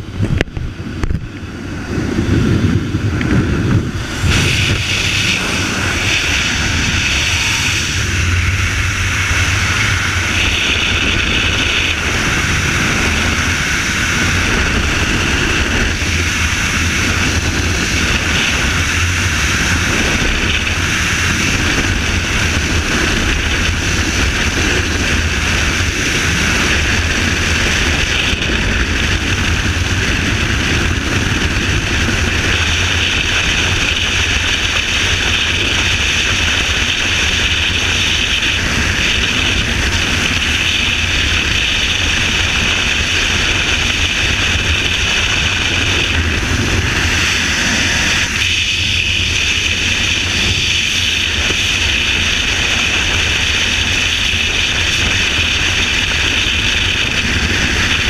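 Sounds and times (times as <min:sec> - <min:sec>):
wind rushing over helmet camera: 0:00.0 - 0:58.0.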